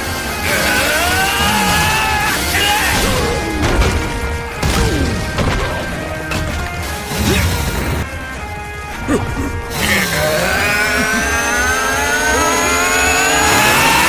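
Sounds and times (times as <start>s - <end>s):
dramatic background music: 0.0s - 14.0s.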